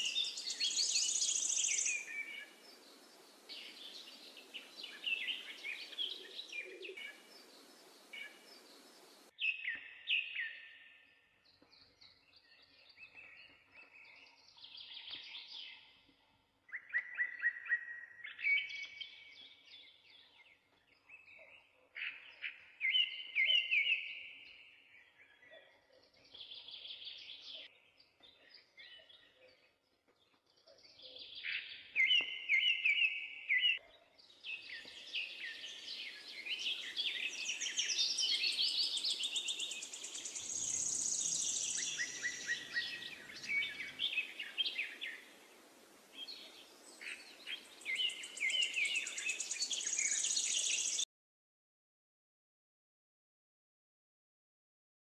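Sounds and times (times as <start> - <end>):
birds chirping and trilling: 0.0 - 51.1.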